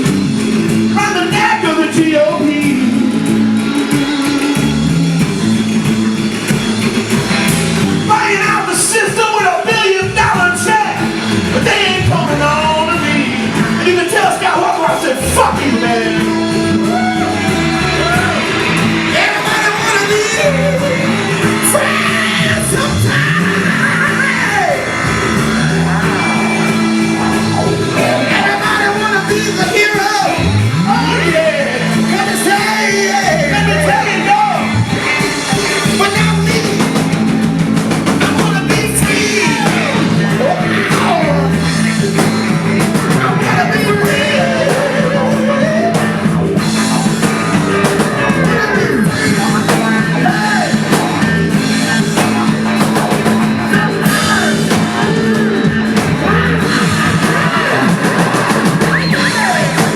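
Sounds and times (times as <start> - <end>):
live rock band playing: 0.0 - 59.9
person singing: 0.8 - 5.7, 9.6 - 37.4, 38.0 - 59.9.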